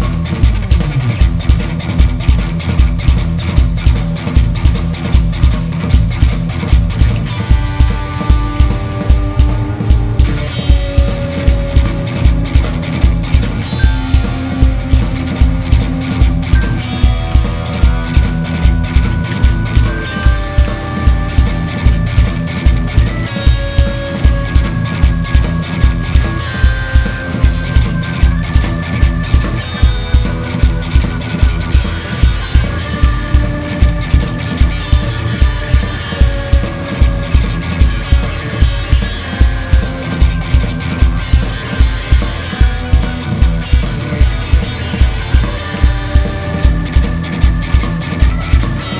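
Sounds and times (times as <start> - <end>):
held lead guitar notes: 0.0 - 48.9
kick drum beat: 0.0 - 48.9
live rock band playing: 0.0 - 48.9.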